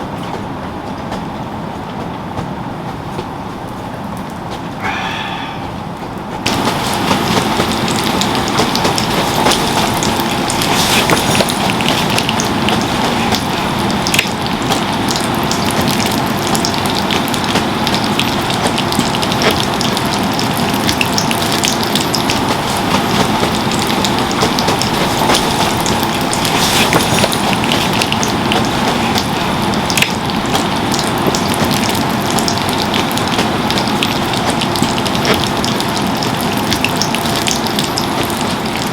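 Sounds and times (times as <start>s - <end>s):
heavy rain hiss: 4.8s - 38.9s
raindrops ticking: 6.4s - 38.9s.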